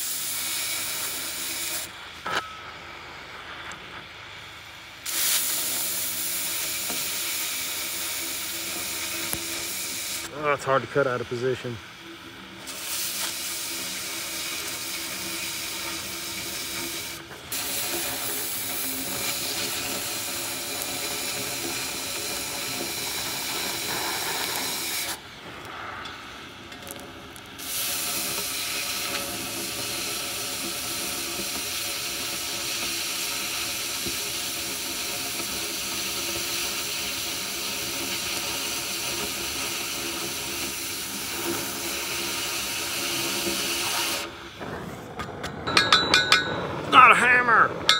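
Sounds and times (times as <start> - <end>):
cutting torch hissing: 0.0 - 47.9.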